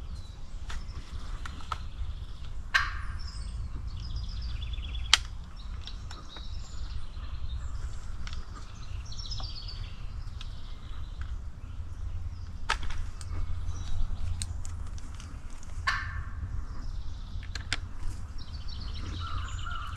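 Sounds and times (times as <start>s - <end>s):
songbirds singing and trilling: 0.0s - 19.9s
steady low rumble: 0.0s - 19.9s.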